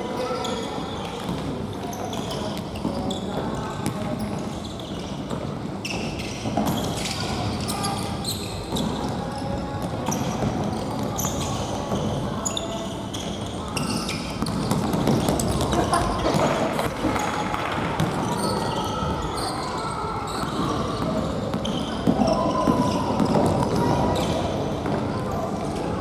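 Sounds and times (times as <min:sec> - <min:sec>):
sneakers squeaking on floor: 0:00.1 - 0:25.8.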